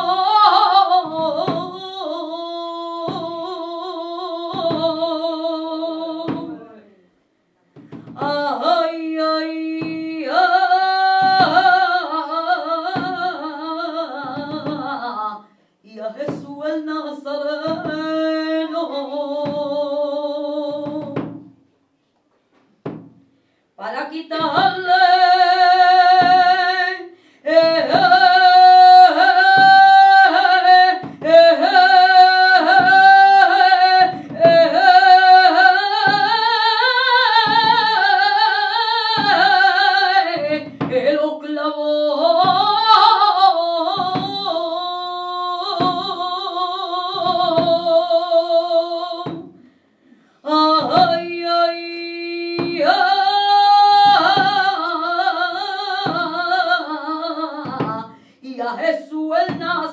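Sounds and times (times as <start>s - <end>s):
woman singing unaccompanied: 0.0s - 7.0s, 7.8s - 21.6s, 23.8s - 49.6s, 50.4s - 59.9s.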